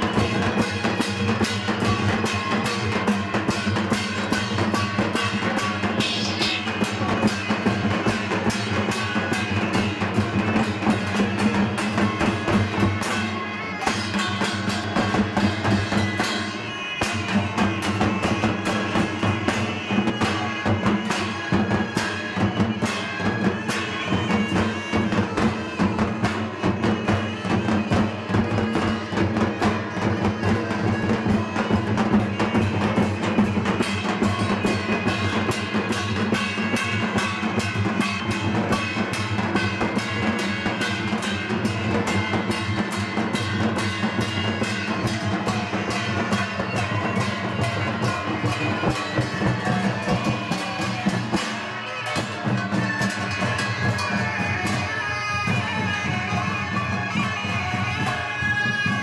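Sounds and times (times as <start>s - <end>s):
loud music with drum beat: 0.0s - 59.0s.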